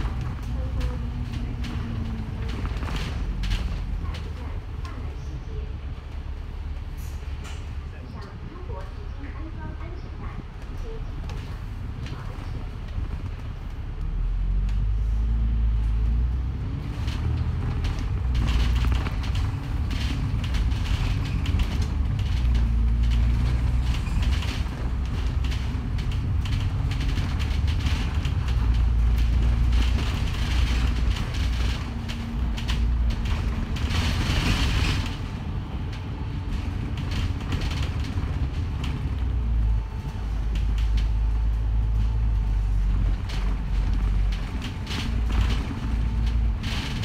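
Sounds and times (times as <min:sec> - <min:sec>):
bodywork rattling and creaking: 0:00.0 - 0:13.9, 0:14.6 - 0:47.0
bus engine drone: 0:00.0 - 0:47.0.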